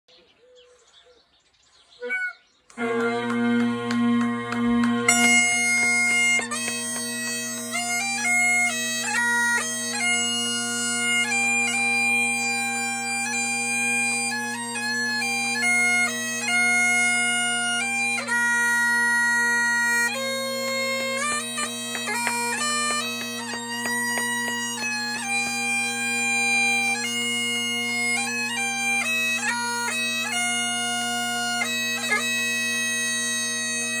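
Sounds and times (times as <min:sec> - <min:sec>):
bagpipes playing: 0:02.0 - 0:34.0.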